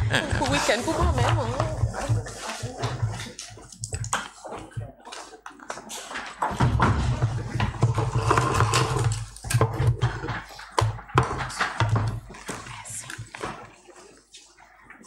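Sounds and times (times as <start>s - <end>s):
knocks and clatter on desks: 0.0s - 13.8s.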